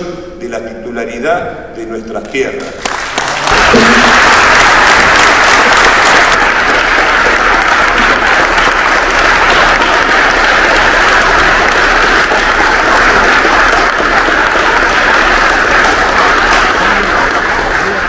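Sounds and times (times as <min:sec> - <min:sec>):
audience applauding: 0:02.6 - 0:18.0.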